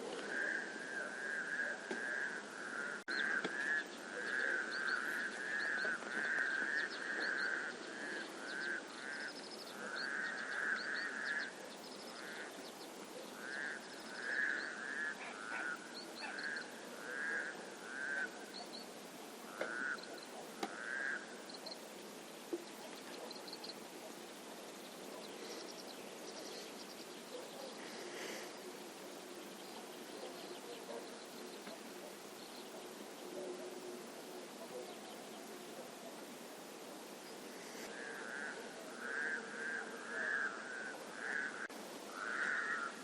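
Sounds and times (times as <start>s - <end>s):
frogs croaking: 0.0s - 43.0s
outdoor background noise: 0.0s - 43.0s
small birds chirping: 2.9s - 20.8s, 21.4s - 37.9s.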